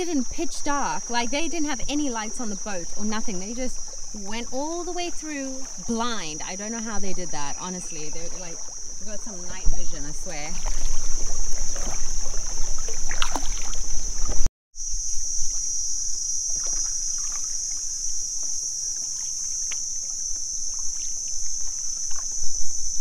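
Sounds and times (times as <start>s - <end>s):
paddle splashing in water: 0.0s - 14.5s, 16.4s - 22.9s
high-pitched insect drone: 0.0s - 23.0s.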